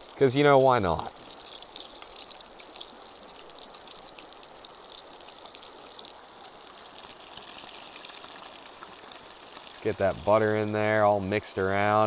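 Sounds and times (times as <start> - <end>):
butter and oil sizzling in skillet: 0.0 - 12.0.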